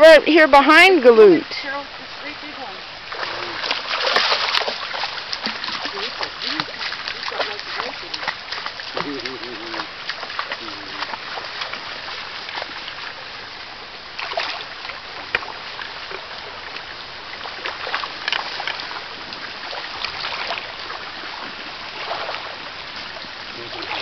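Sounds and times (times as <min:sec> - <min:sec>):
splashes of wading: 0:00.0 - 0:24.0
stream running over its bed: 0:00.0 - 0:24.0.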